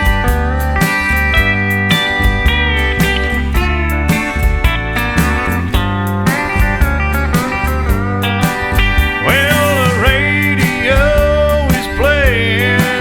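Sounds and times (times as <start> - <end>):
country music: 0.0 - 13.0
drum beat: 0.0 - 13.0
steel guitar sliding: 0.0 - 13.0.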